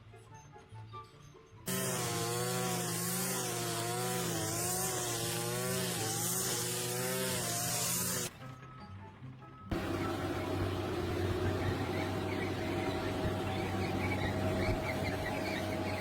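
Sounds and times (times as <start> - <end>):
power saw cutting: 1.7 - 8.3, 9.7 - 16.0.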